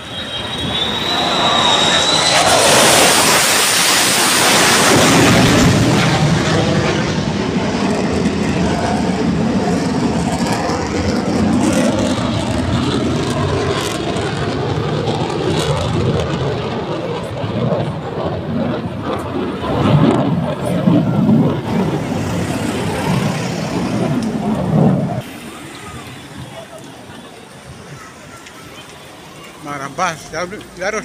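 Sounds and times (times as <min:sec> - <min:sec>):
jets roaring overhead: 0:00.0 - 0:31.0.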